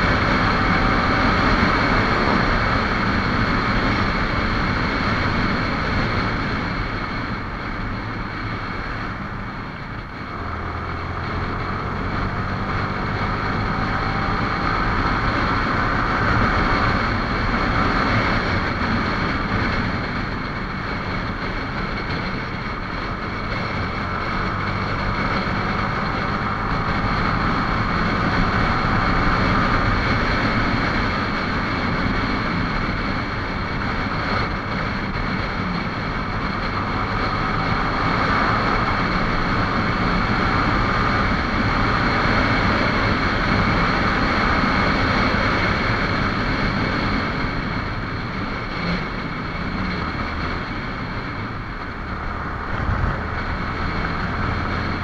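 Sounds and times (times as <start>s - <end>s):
motorcycle engine running: 0.0s - 55.0s
rushing wind: 0.0s - 55.0s.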